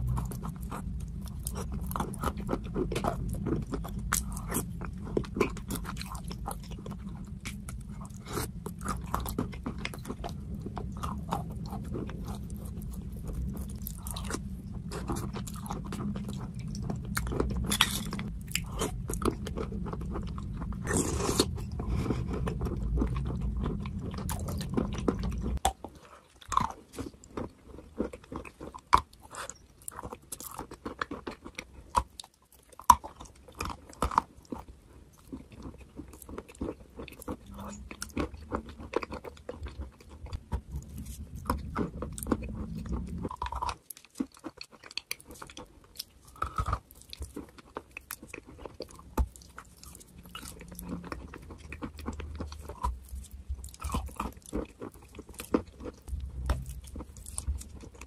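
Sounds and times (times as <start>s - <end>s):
low steady hum: 0.0s - 58.0s
wet crackly eating sounds: 0.0s - 58.0s.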